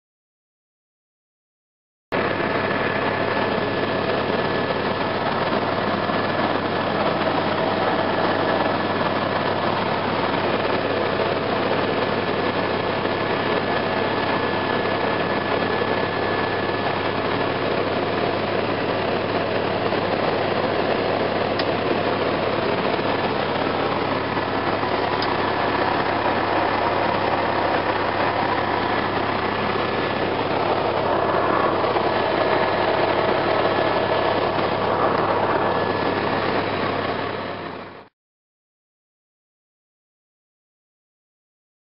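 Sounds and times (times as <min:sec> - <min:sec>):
helicopter turbine and rotor drone: 0:02.1 - 0:38.1
thin steady whine: 0:02.2 - 0:38.1.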